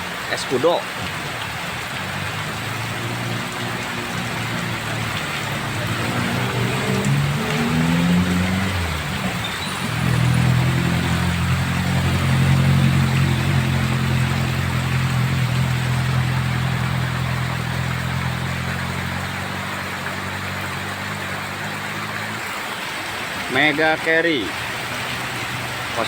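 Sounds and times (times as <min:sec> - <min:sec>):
heavy rain hiss: 0:00.0 - 0:26.0
vehicle engine climbing uphill: 0:00.9 - 0:26.0.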